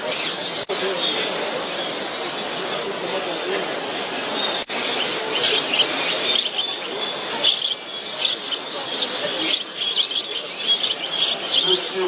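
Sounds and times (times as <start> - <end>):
murmur of crowd talking: 0.0 - 12.0
songbirds chirping and singing: 0.0 - 12.0.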